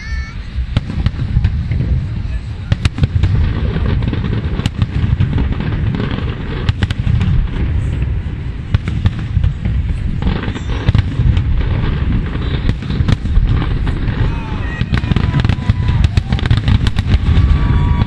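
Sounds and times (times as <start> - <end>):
firework shells bursting: 2.7 - 18.0.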